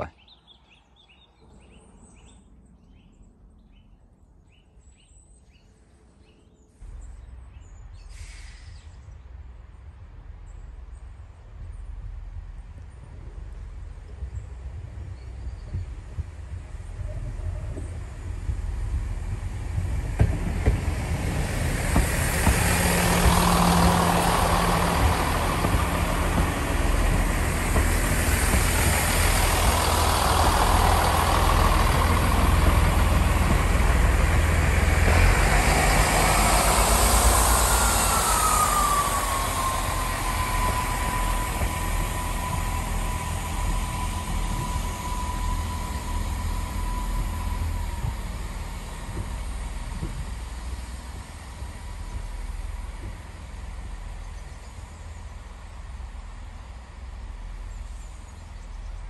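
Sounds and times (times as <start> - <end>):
train wheels rumbling on rails: 6.8 - 59.0.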